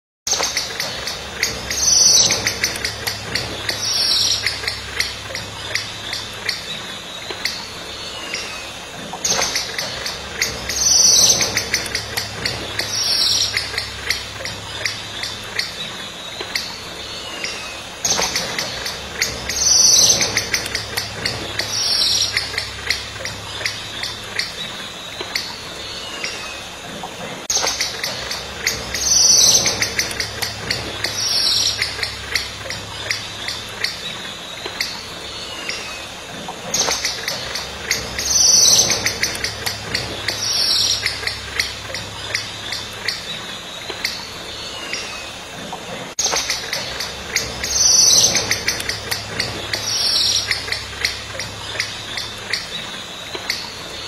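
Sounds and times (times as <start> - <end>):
insects chirping: 0.3 - 54.0.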